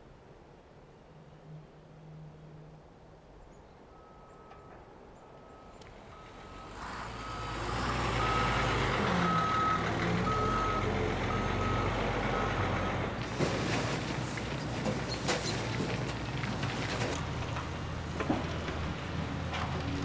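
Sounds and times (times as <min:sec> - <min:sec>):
construction vehicle engine: 0:04.0 - 0:20.0.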